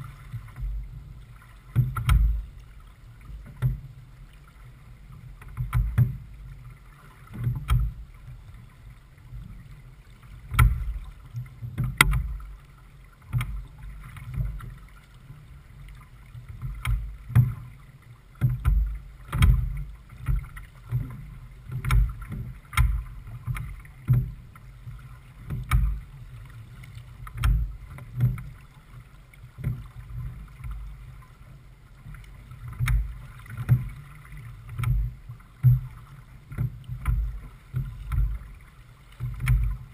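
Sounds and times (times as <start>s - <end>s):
rush of wind and water: 0.0s - 39.9s
water thumping against hull: 0.0s - 39.9s.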